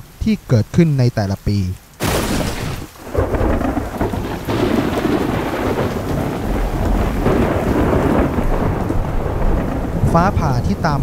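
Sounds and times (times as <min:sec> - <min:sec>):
steady rain: 0:00.0 - 0:11.0
rolling thunder: 0:02.0 - 0:11.0.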